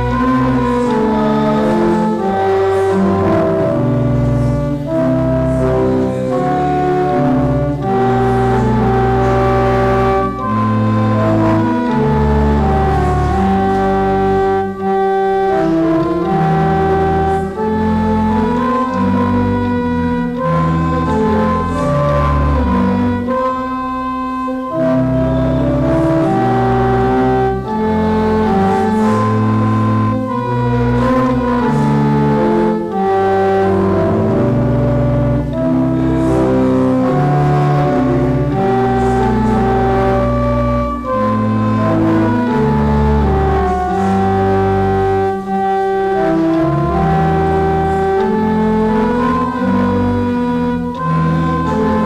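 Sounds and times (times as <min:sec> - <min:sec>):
church organ playing hymn chords: 0:00.0 - 0:52.0.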